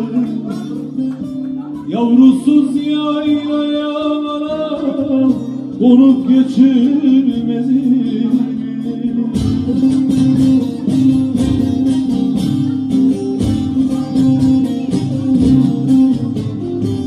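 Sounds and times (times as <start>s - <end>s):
man singing folk song: 0.0s - 16.7s
lute and acoustic guitar: 0.0s - 17.0s.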